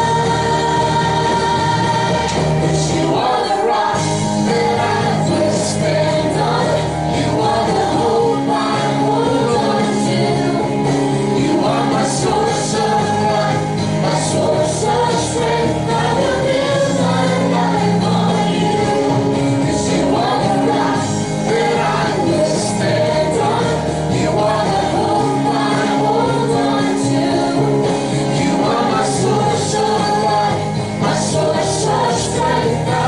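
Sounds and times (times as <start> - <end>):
group singing worship music: 0.0 - 33.0.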